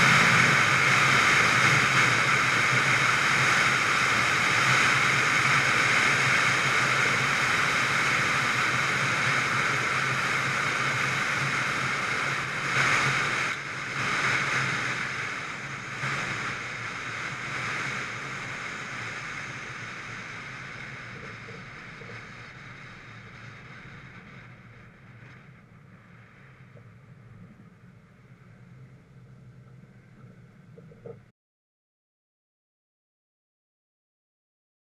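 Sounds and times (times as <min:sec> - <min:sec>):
wind rush: 0:00.0 - 0:31.1
car road noise: 0:00.0 - 0:31.3.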